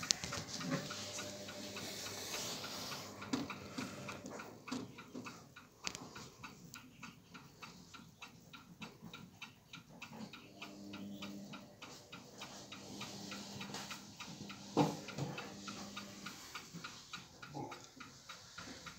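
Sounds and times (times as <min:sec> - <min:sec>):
clock ticking: 0:00.0 - 0:18.9.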